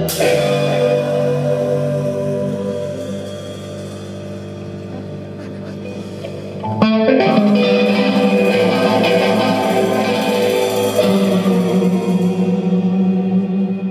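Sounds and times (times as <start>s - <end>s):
live band playing chords: 0.0s - 13.9s
sharp guitar strike: 0.0s - 13.9s.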